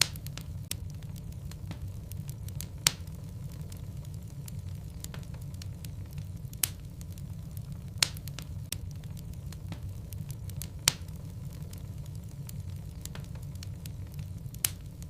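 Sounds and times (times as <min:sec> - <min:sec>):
wood fire rumbling and crackling: 0:00.0 - 0:15.0.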